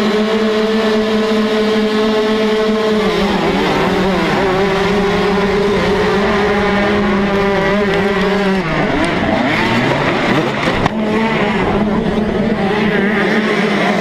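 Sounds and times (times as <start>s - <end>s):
dirt bike engines revving: 0.0s - 14.0s
motocross engine revving high: 0.0s - 14.0s.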